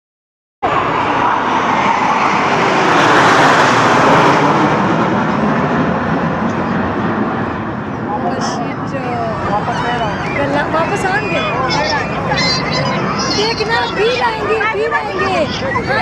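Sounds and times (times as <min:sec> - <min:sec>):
jet aircraft roar: 0:00.6 - 0:16.0.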